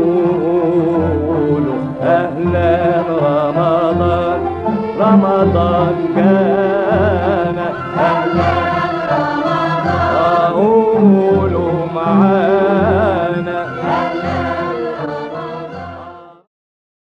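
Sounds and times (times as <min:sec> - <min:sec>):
voices singing ornamented melody: 0:00.0 - 0:16.5.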